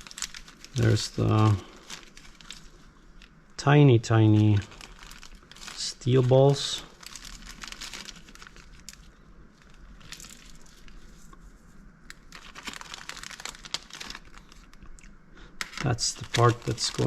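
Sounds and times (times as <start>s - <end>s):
crinkly rustling: 0.0s - 3.4s, 4.0s - 17.0s.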